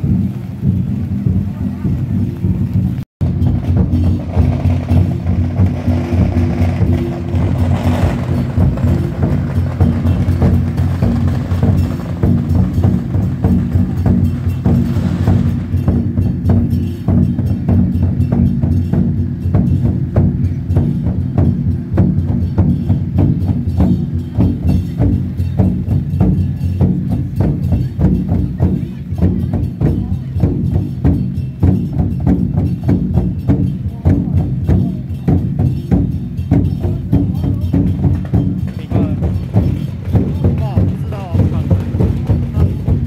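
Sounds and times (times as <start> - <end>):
drums beaten in quick rhythm: 0.0 - 43.0
low drum rumble: 0.0 - 43.0
sharp clacking strikes: 0.0 - 43.0.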